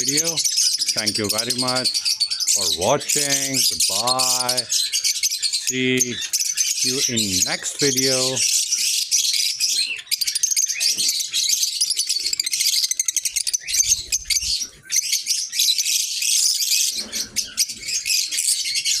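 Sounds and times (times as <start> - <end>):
lovebirds chattering: 0.0 - 19.0.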